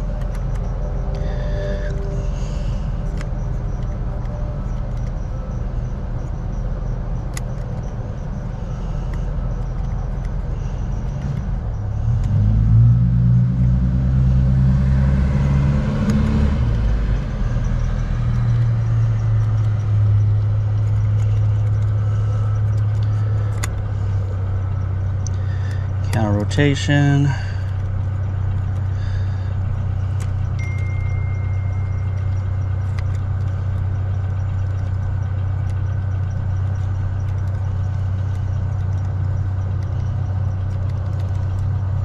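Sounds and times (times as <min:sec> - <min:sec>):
vehicle engine rumbling: 0:00.0 - 0:42.0.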